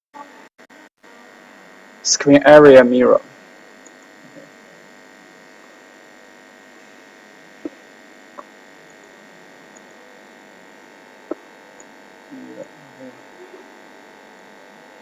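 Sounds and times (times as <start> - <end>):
microphone electrical hum and hiss: 0.2 - 15.0.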